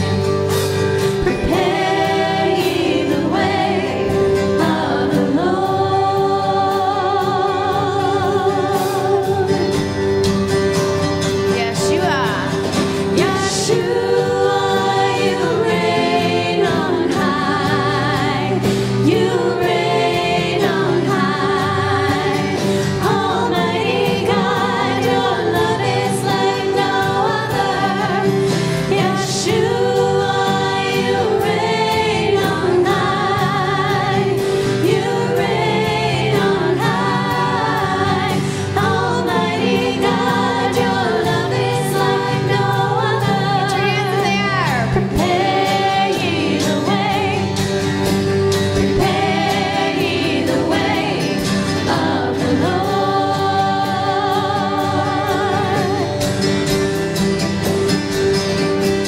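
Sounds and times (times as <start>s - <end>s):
several voices singing worship song: 0.0s - 10.6s, 11.6s - 59.0s.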